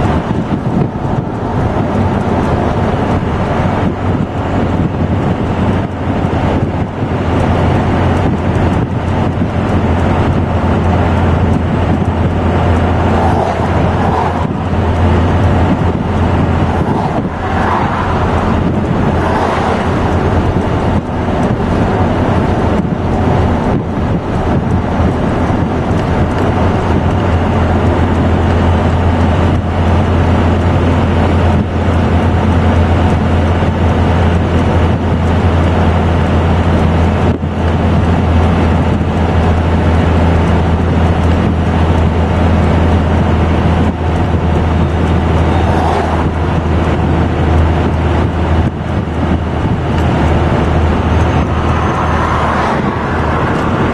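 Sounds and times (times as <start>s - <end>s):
diesel truck engine droning: 0.0s - 53.9s
road noise: 0.0s - 53.9s.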